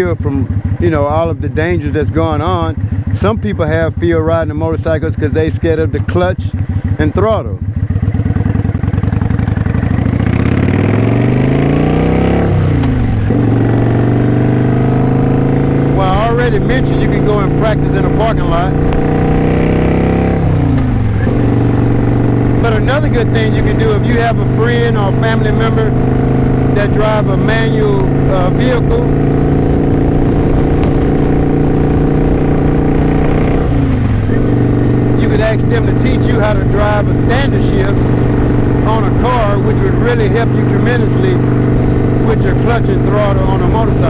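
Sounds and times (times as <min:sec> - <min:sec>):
motorcycle accelerating: 0:00.0 - 0:44.0.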